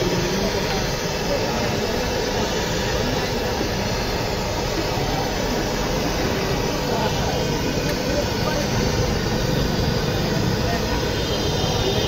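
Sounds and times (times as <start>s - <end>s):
gas blowtorch hissing: 0.0s - 12.0s.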